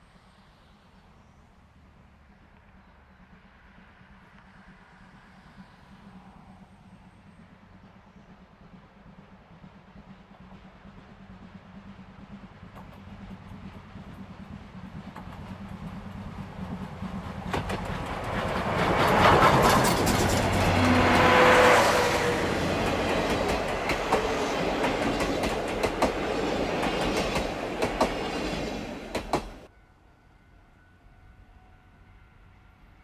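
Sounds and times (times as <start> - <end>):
train wheels clicking on rails: 2.7 - 29.7
steam locomotive chugging: 3.2 - 29.7.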